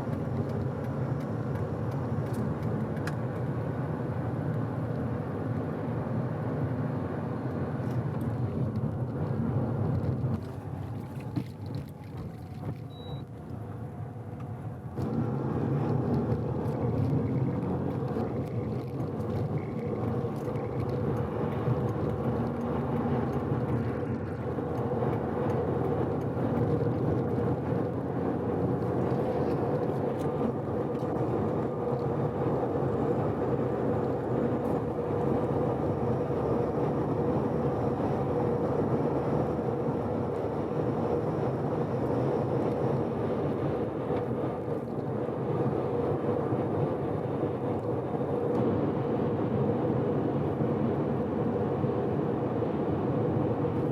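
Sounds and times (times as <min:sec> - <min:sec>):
rotary engine and tyres droning: 0:00.0 - 0:53.9.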